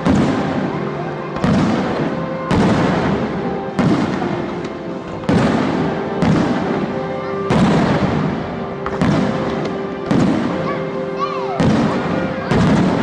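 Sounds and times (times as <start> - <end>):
fireworks booming and crackling: 0.0 - 13.0
music playing: 0.0 - 13.0.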